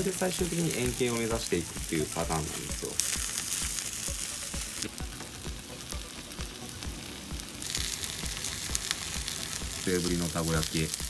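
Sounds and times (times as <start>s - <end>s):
background music with steady beat: 0.0s - 11.0s
batter sizzling in oil: 0.0s - 11.0s.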